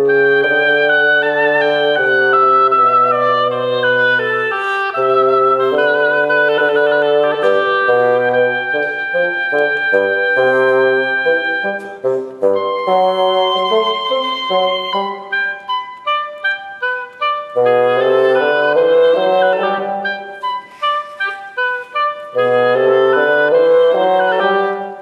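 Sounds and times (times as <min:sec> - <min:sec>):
bassoon held notes: 0:00.0 - 0:25.0
oboe melody: 0:00.0 - 0:25.0.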